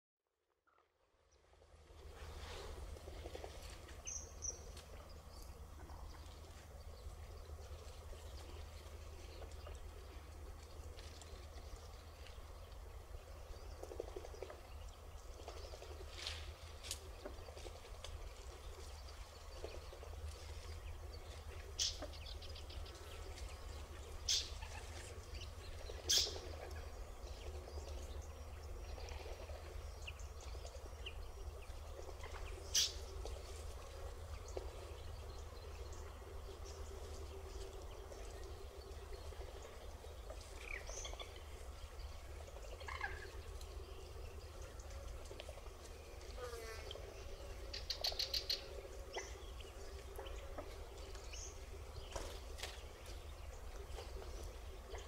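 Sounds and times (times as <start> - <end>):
steady low rumble: 1.4 - 46.4.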